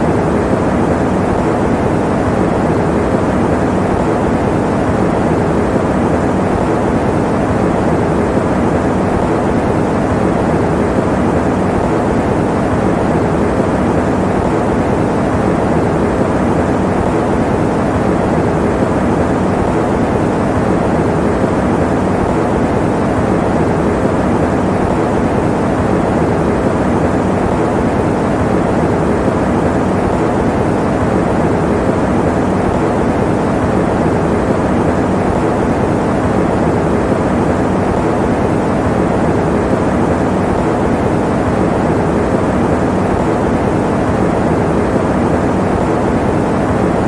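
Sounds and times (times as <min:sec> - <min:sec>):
electric fan running: 0:00.0 - 0:47.0.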